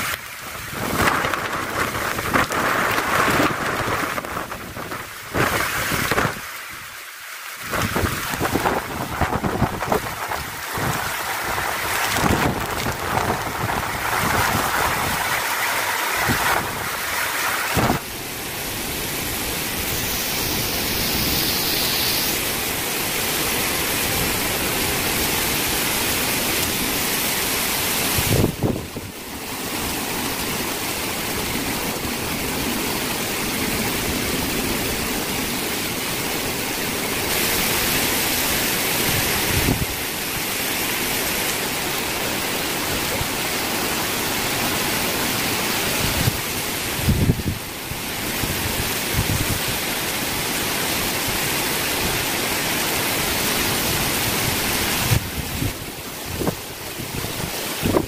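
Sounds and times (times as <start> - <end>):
heavy rain in strong wind: 0.0 - 58.0.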